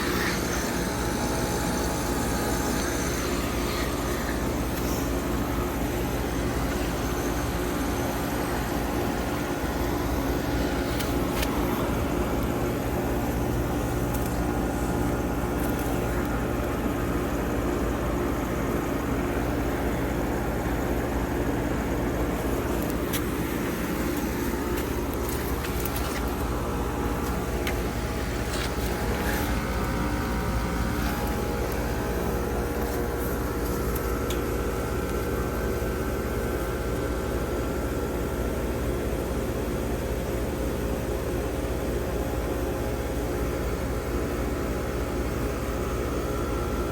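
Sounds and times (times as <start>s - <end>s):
heat pump humming: 0.0s - 46.9s.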